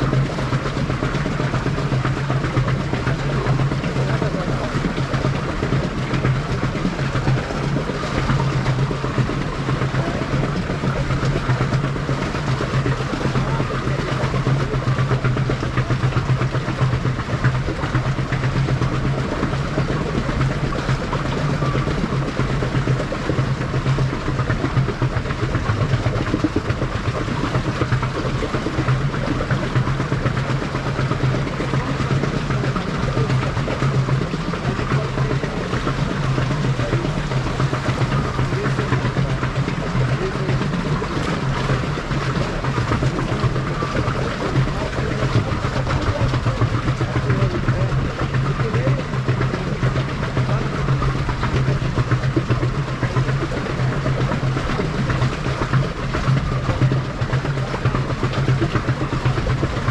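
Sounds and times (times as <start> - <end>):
boat engine hum: 0.0 - 59.9
water rushing along hull: 0.0 - 59.9.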